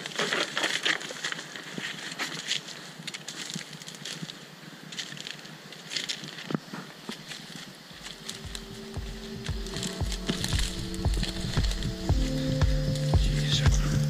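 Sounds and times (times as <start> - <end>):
branches brushing past: 0.0 - 14.0
footsteps crunching through leaves: 0.0 - 14.0.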